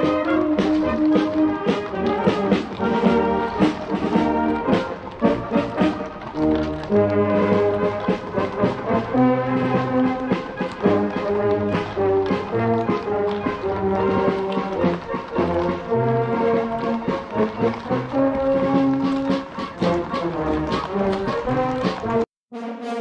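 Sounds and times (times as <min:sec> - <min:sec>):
brass band music: 0:00.0 - 0:23.0.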